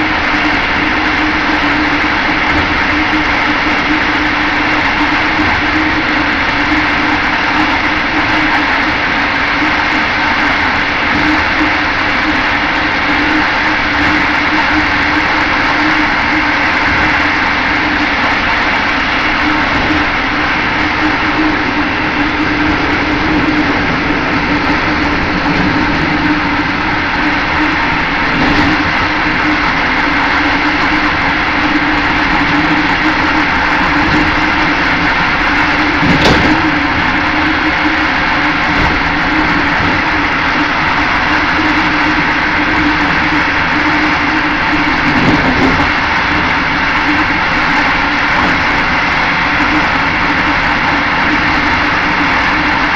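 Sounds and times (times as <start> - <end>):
constant hum: 0.0 - 52.9
train wheels rumbling on rails: 0.0 - 52.9.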